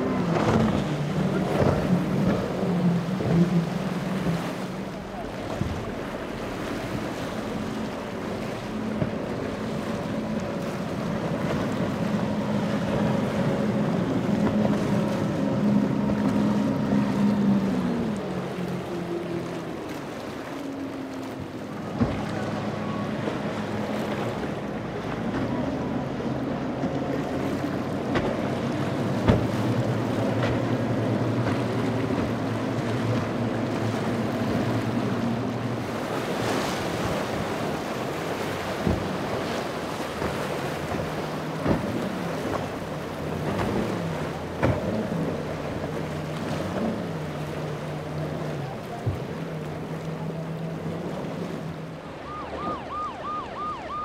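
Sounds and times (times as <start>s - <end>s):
boat outboard motors passing: 0.0s - 54.0s
waves and wake spray: 0.0s - 54.0s.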